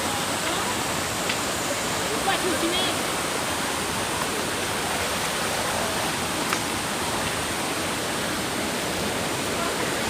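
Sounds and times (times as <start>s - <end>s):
stream flowing: 0.0s - 10.0s.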